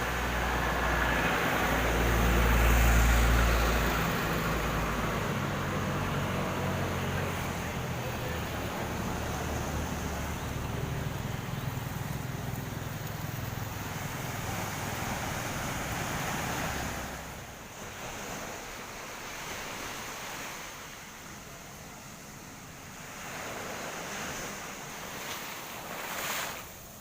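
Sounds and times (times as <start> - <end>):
vehicle engine rumble passing: 0.0 - 25.2
steady rushing outdoor noise: 0.0 - 27.0.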